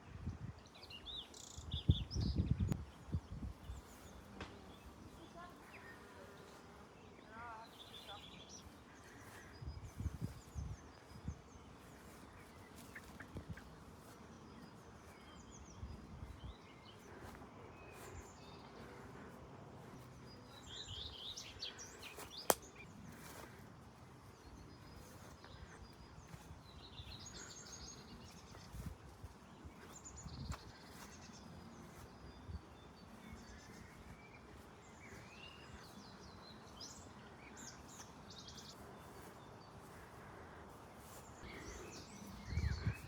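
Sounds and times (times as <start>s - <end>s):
small birds chirping and singing: 0.0s - 43.0s.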